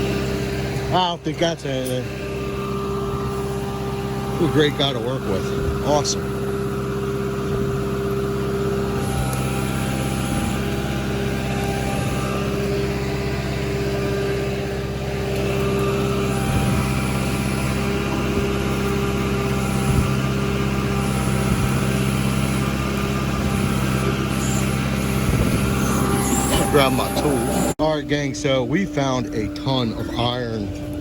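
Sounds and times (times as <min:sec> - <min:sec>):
digging machine engine running: 0:00.0 - 0:31.0.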